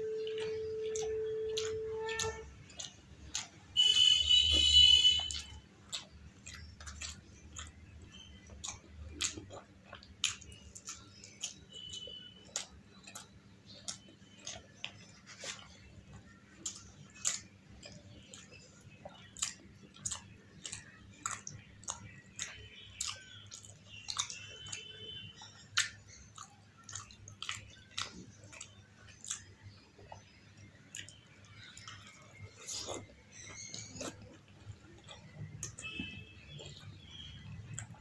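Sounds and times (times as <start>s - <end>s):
wet chewing and lip smacking: 0.0s - 38.0s.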